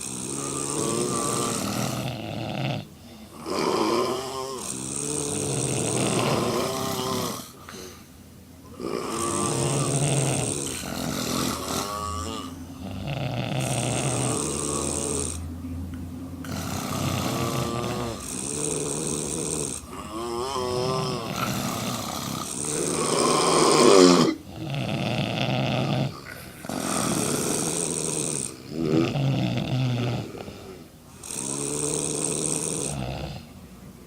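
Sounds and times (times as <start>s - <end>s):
woman snoring loudly: 0.0s - 7.9s, 8.7s - 15.5s, 16.4s - 33.5s.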